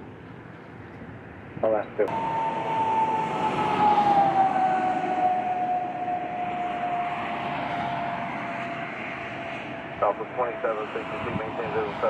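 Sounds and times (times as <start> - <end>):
jet engines rushing and whining: 0.0 - 12.0.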